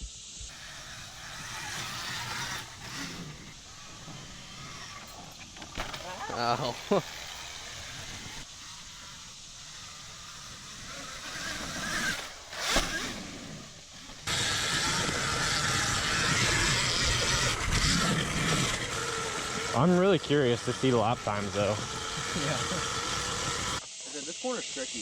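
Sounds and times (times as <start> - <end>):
electric dirt bike riding: 0.4 - 23.8.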